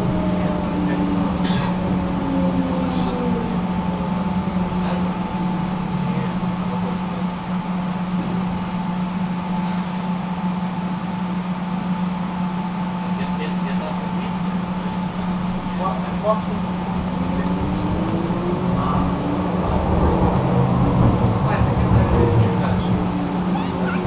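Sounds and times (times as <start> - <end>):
tram electrical hum: 0.0 - 24.0.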